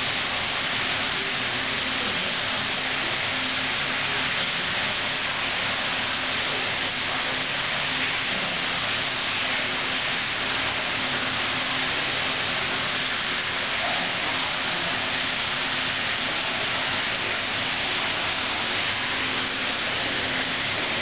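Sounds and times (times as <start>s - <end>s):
water rushing in aquarium: 0.0s - 21.0s.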